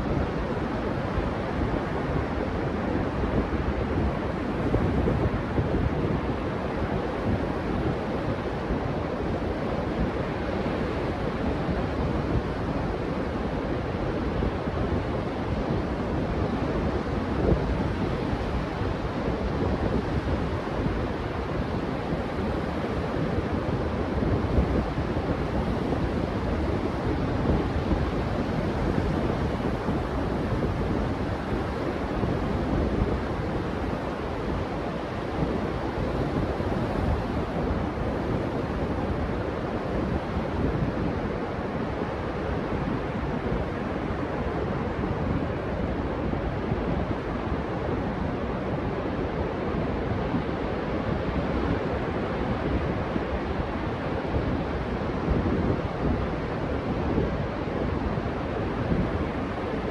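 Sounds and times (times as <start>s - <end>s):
surf washing on sandy beach: 0.0s - 59.9s
wind buffeting microphone: 0.0s - 59.9s.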